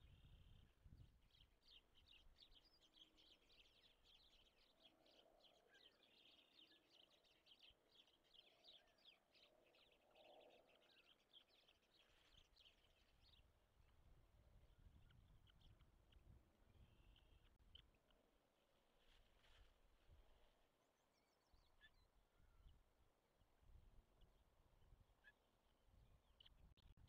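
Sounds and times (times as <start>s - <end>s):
faint bird chirping: 0.0s - 13.8s, 14.5s - 23.2s, 24.0s - 27.0s.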